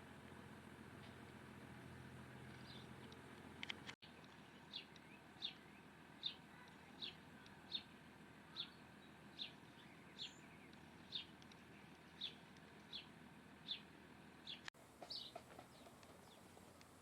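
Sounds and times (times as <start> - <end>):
bird chirping: 2.4 - 3.3, 4.0 - 16.8.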